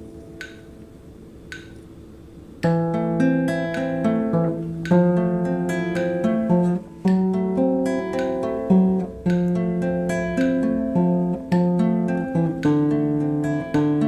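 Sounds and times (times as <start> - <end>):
guitar plucked notes: 0.0 - 2.0, 2.6 - 14.0
guitar strummed chords: 2.6 - 14.0.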